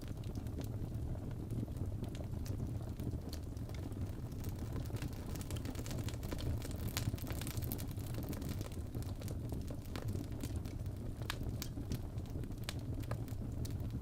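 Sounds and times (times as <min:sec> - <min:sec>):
low rumble of fire: 0:00.0 - 0:14.0
wood fire crackling and popping: 0:00.0 - 0:14.0.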